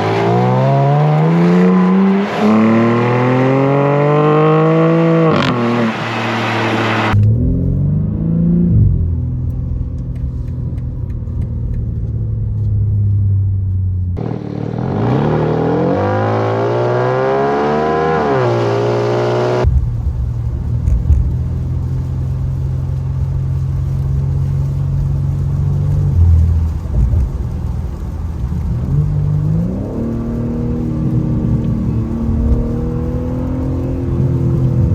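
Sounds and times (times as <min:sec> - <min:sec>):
car exhaust revving and accelerating: 0:00.0 - 0:34.9.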